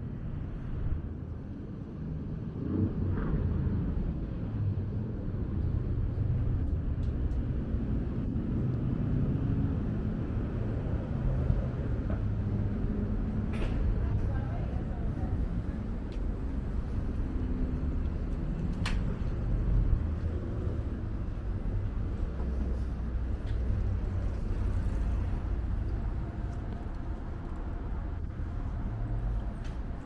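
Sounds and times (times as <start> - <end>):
passing cars and buses: 0.0 - 30.0.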